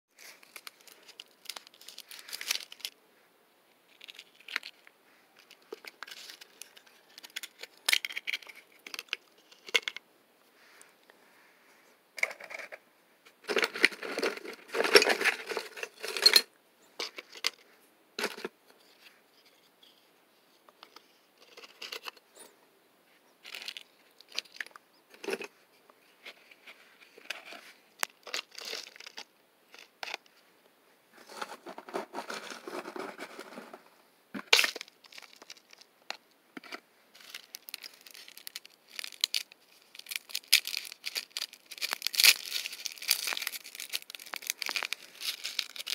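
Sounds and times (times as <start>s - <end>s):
crackly rustling of shells and soil: 0.1s - 3.0s, 3.7s - 22.5s, 23.1s - 45.9s.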